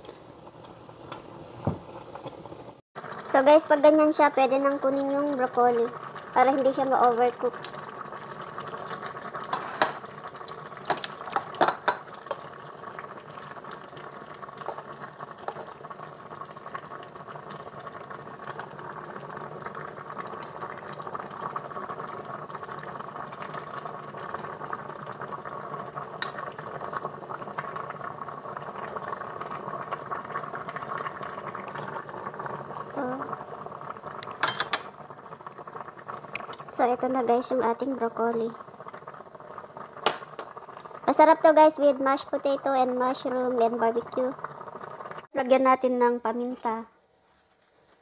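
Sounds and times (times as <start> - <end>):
water boiling in a saucepan: 0.0 - 47.4.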